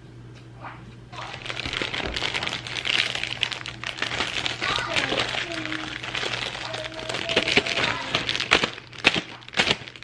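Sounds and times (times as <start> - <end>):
plastic bag crinkling: 1.1 - 10.0
sharp plastic crackles: 1.1 - 10.0.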